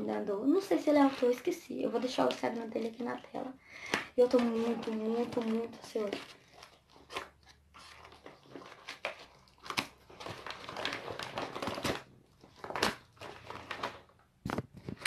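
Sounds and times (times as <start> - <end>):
paper mailer crinkling: 0.5 - 3.3, 4.2 - 15.0.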